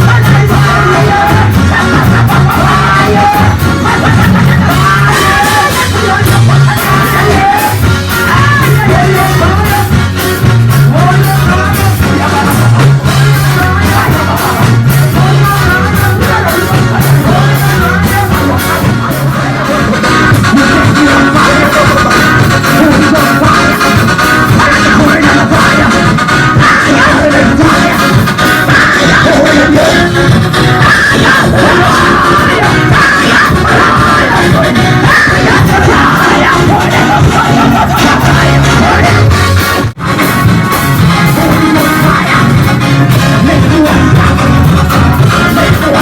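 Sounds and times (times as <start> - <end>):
bass line: 0.0 - 46.0
person singing: 0.0 - 46.0
worship band playing: 0.0 - 46.0.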